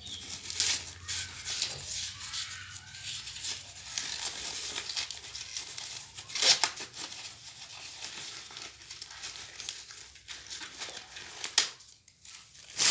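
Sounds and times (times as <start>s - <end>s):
corn husks rustling and tearing: 0.0s - 12.9s.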